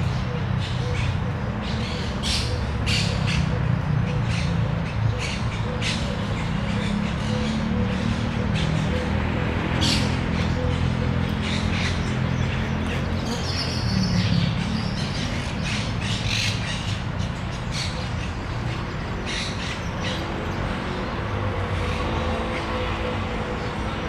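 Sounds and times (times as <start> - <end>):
birds giving harsh calls: 0.0 - 24.0.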